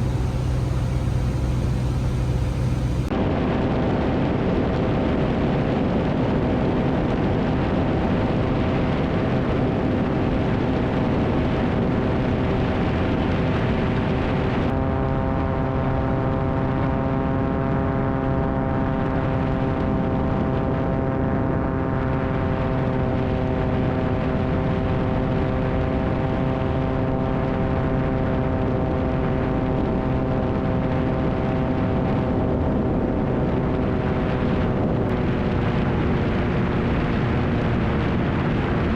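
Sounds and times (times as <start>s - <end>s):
propeller plane engine droning: 0.0s - 3.8s, 5.2s - 38.9s.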